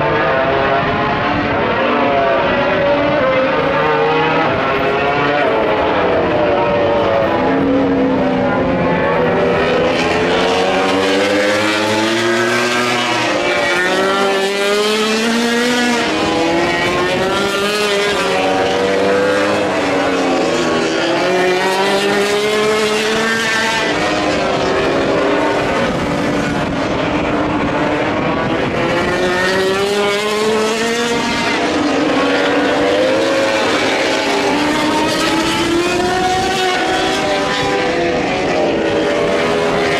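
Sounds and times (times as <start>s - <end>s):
racing motorcycles revving: 0.0s - 39.9s.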